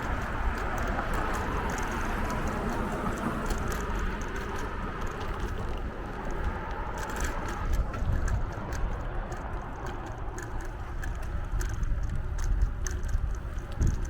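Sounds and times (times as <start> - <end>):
bicycle clicks and rattles: 0.0 - 14.0
wind rumbling on microphone: 0.0 - 14.0.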